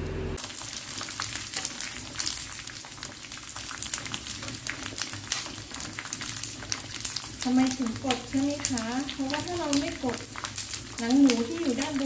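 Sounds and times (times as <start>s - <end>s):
crackling pops: 0.4s - 12.0s
pork skin sizzling in hot oil: 0.4s - 12.0s.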